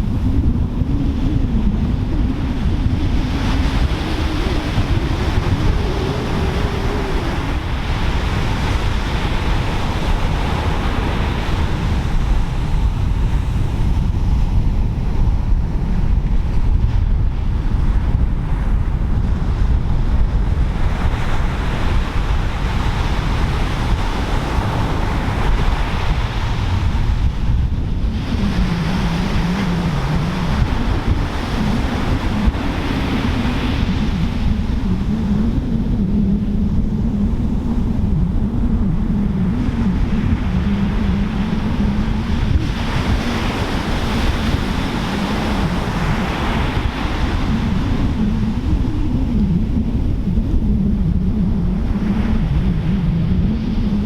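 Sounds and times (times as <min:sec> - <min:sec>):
low wavering drone: 0:00.0 - 0:54.0
surf breaking and washing in: 0:00.0 - 0:54.0
wind buffeting microphone: 0:00.0 - 0:54.0.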